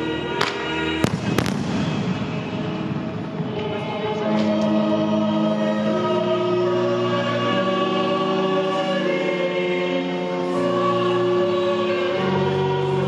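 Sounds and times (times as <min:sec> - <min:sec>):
choir singing sustained chords: 0:00.0 - 0:13.0.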